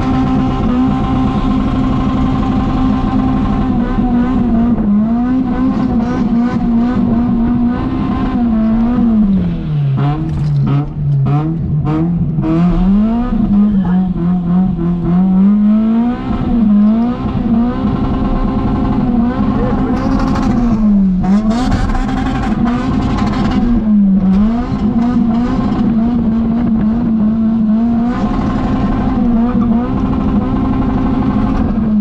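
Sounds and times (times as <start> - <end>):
car engine at high revs: 0.0 - 32.0
engine bouncing off rev limiter: 0.0 - 32.0.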